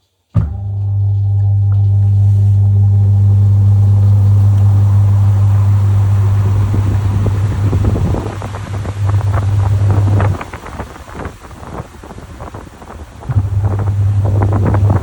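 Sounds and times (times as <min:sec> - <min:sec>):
washing machine motor humming: 0:00.4 - 0:15.0.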